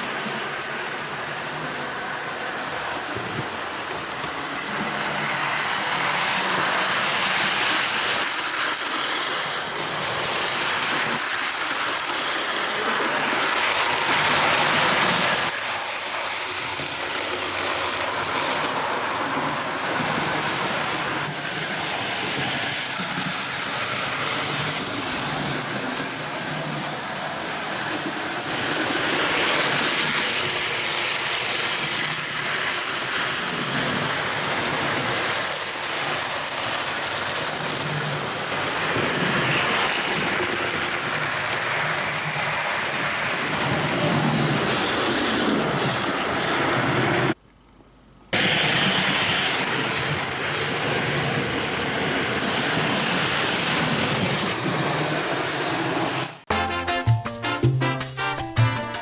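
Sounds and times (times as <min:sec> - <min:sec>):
model train motor whirr: 0:00.0 - 0:47.4, 0:48.4 - 0:56.4.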